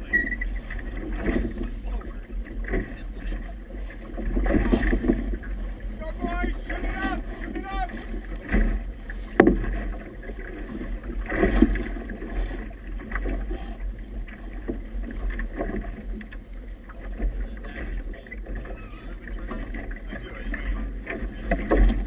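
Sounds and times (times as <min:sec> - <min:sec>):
water slapping boat hull: 0:00.0 - 0:22.0.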